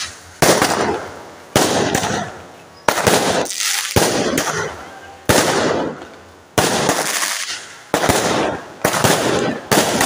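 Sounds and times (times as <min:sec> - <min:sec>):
fireworks bangs: 0:00.0 - 0:10.0
fireworks crackling: 0:00.0 - 0:10.0.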